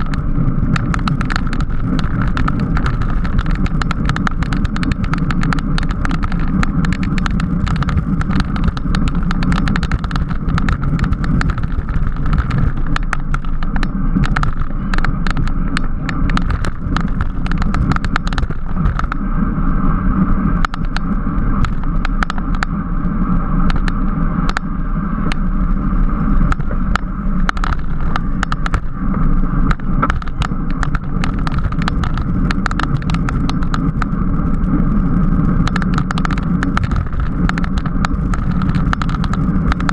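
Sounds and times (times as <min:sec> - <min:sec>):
bicycle road noise: 0:00.0 - 0:39.9
crackling clicks: 0:00.0 - 0:39.9
wind rush: 0:00.0 - 0:39.9.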